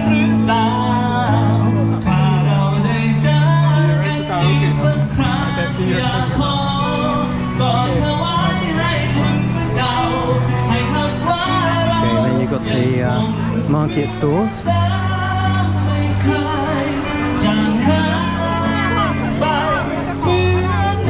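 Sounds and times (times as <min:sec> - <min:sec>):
bass line: 0:00.0 - 0:21.0
man singing: 0:00.0 - 0:21.0.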